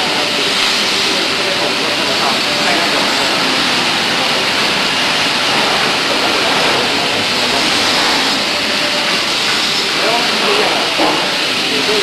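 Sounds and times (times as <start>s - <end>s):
factory machinery rushing: 0.0s - 12.0s.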